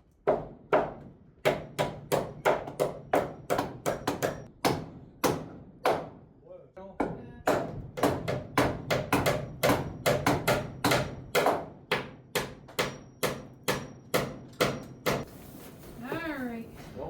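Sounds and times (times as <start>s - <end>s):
hammer driving nails into wood: 0.2s - 6.2s, 7.5s - 15.2s.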